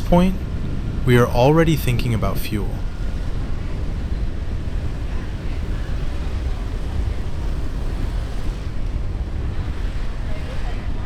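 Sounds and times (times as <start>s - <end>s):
motorbike road noise: 0.0s - 11.0s
wind buffeting microphone: 0.0s - 11.0s.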